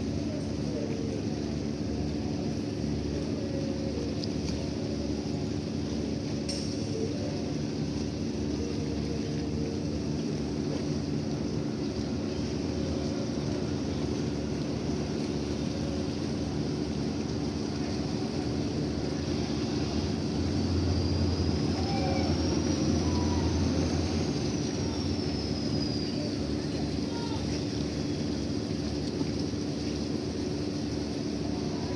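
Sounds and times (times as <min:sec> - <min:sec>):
ship engines droning: 0:00.0 - 0:31.9.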